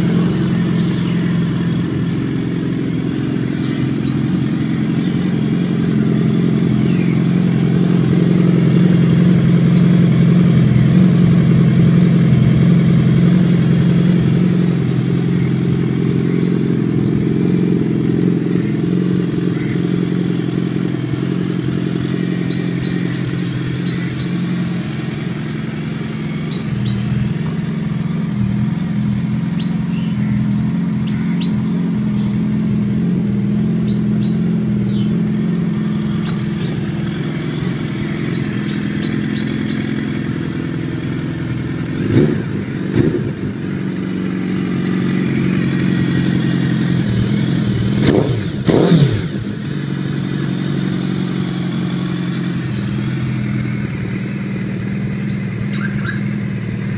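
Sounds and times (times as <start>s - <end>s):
motorcycle engine idling: 0.0s - 56.9s
motorcycle throttle blips: 0.0s - 56.9s.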